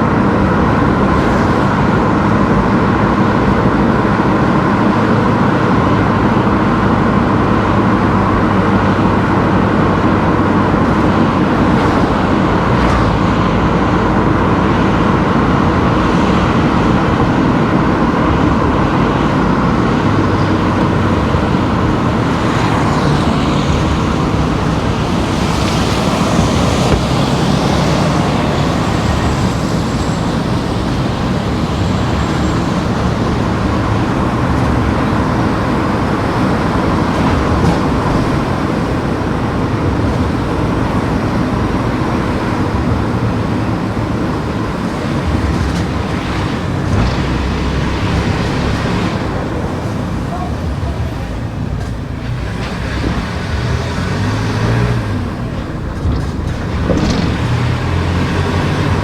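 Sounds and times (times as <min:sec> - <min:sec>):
car engine: 0:00.0 - 0:59.0
tyres on tarmac: 0:00.0 - 0:59.0.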